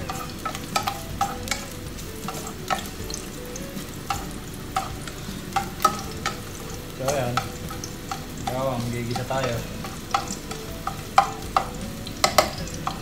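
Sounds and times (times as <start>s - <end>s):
garlic sizzling in oil: 0.0s - 13.0s
utensil scraping a pan: 0.0s - 13.0s.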